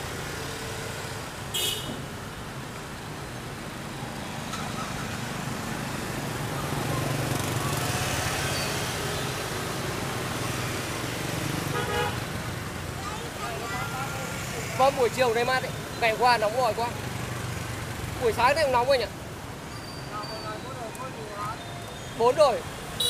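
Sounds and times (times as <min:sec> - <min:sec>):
motorbikes and cars passing: 0:00.0 - 0:23.0.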